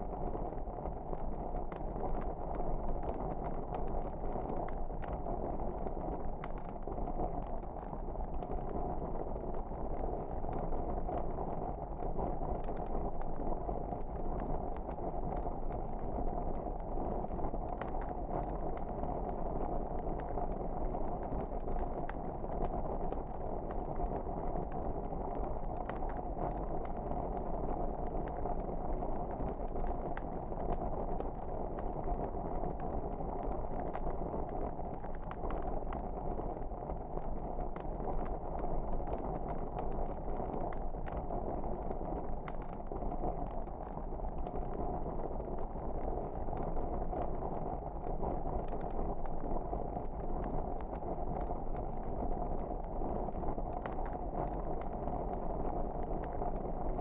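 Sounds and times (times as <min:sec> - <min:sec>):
fire crackles and pops: 0:00.0 - 0:57.0.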